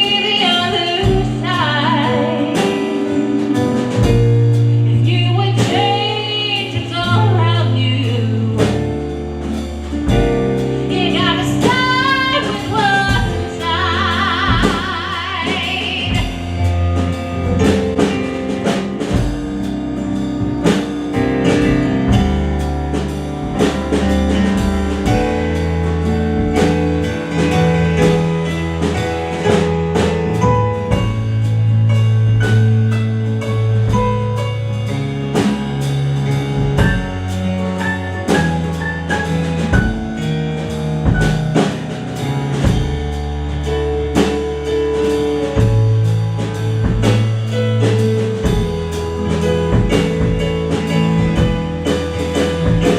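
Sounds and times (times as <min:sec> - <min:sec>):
band with drum kit: 0:00.0 - 0:52.9.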